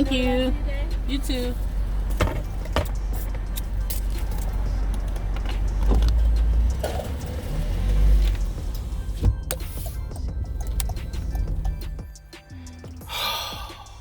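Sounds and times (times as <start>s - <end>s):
low car rumble: 0.0s - 14.0s.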